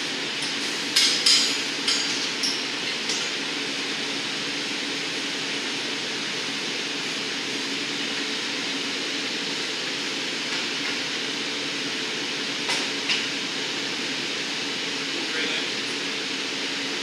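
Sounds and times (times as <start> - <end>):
gas furnace rushing: 0.0 - 17.0.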